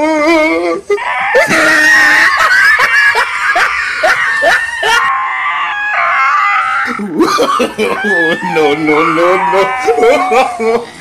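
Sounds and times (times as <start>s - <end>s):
high-pitched screaming voice: 0.0s - 10.8s.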